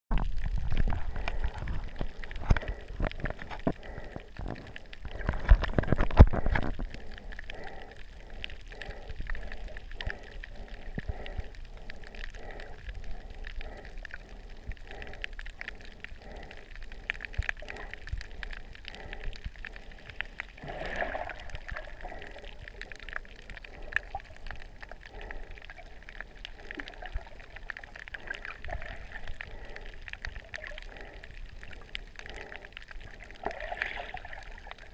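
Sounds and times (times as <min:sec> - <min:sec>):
small clicks underwater: 0:00.1 - 0:34.9
underwater splashing and bubbling: 0:00.1 - 0:34.9
muffled underwater noise: 0:00.2 - 0:34.9
soft regular pulsing: 0:00.2 - 0:34.9.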